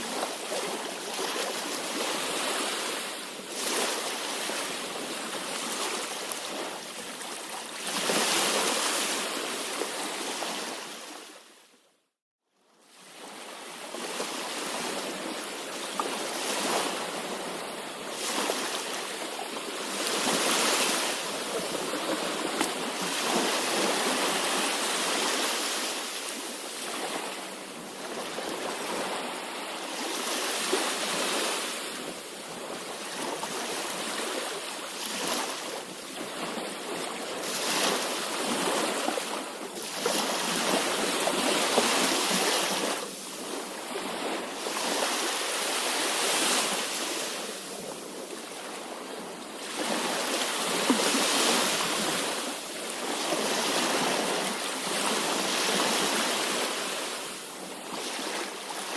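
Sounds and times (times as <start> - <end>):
waves breaking on shore: 0.0 - 11.8, 12.8 - 58.9.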